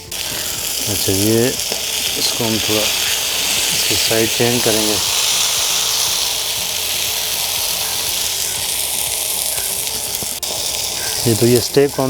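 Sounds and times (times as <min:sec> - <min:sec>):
chicken sizzling on grill pan: 0:00.0 - 0:12.0.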